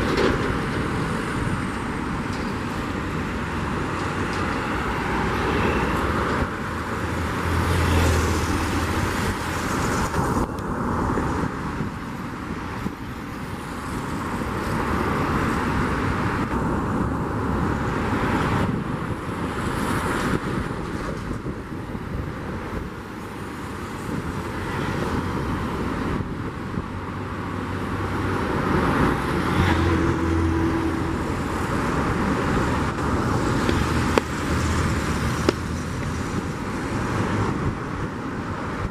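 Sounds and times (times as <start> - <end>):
vehicle rushing noise: 0.0 - 38.9.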